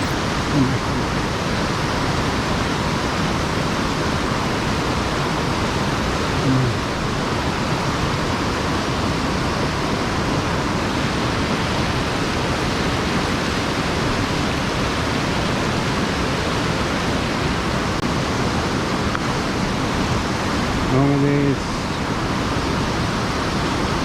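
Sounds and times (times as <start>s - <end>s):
water rushing over dam: 0.0s - 24.0s.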